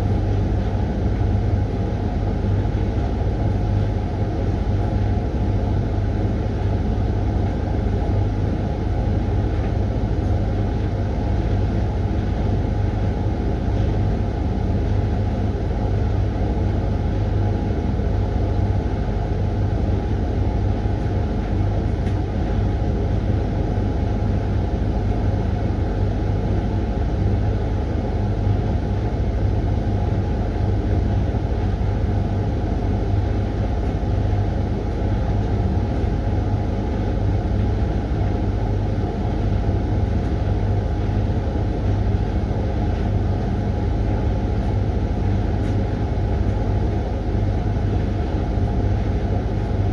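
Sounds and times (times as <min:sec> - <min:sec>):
washing machine rumbling: 0:00.0 - 0:49.9.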